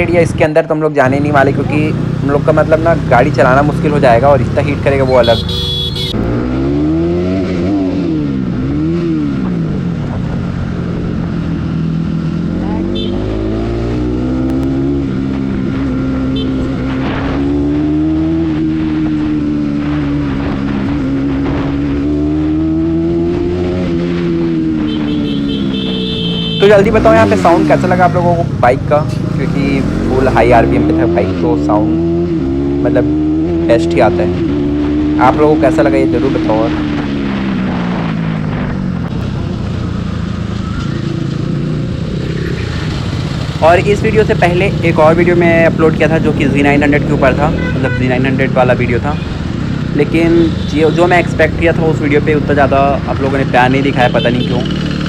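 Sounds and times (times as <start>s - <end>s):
wind and road noise: 0.0s - 55.0s
motorcycle engine at high revs: 1.0s - 55.0s.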